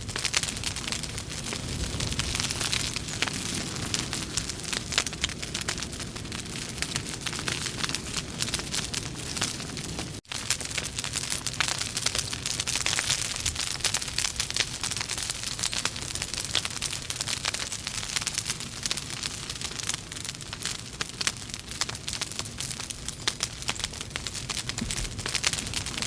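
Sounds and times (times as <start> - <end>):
logs crackling and popping: 0.0 - 26.0.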